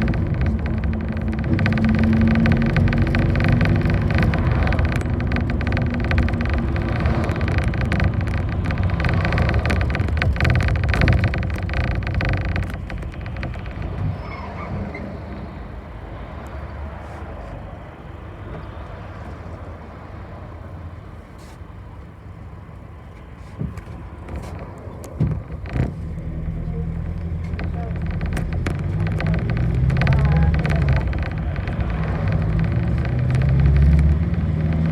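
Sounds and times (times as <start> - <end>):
knocks and clunks: 0.0 - 16.6, 23.4 - 34.9
bus engine running: 0.0 - 34.9.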